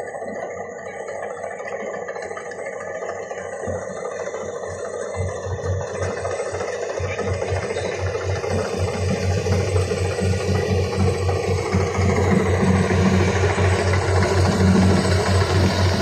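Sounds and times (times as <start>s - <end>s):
diesel engine throbbing: 0.0s - 16.0s.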